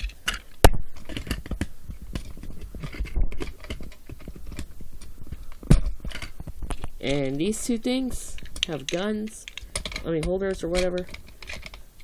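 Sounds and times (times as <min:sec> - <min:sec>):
plastic toy parts clicking: 0:00.0 - 0:07.4, 0:08.3 - 0:11.8.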